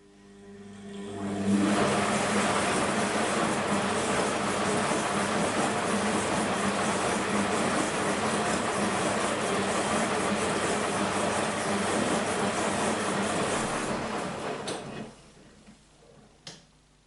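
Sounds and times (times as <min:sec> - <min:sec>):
washing machine running: 0:00.0 - 0:15.5.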